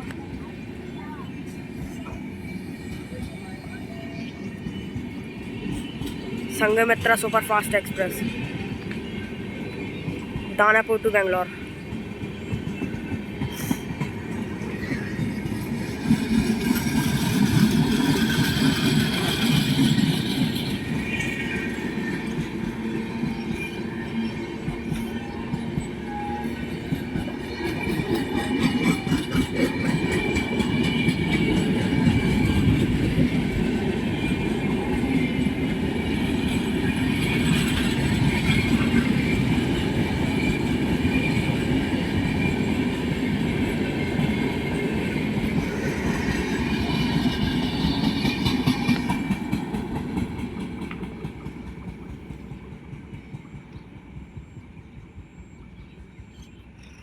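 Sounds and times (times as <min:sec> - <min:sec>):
clickety-clack over rail joints: 0:00.0 - 0:55.3
train wheels rumbling: 0:00.0 - 0:56.3.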